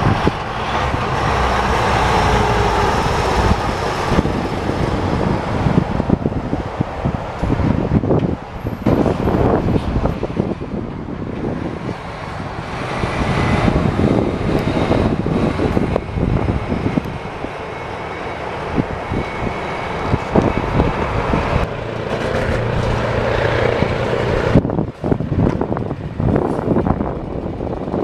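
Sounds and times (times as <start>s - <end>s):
dump truck engine: 0.0s - 28.0s
heavy truck driving by: 0.0s - 28.0s
road traffic: 0.0s - 28.0s.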